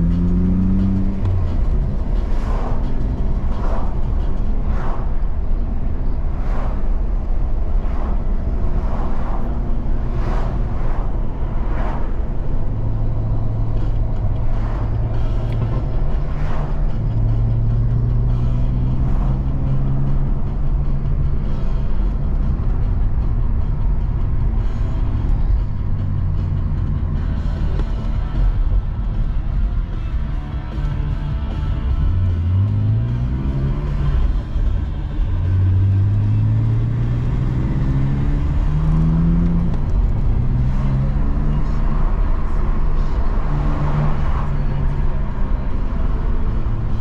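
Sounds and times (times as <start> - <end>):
car engine droning: 0.0 - 47.0
road and tyre noise: 0.0 - 47.0.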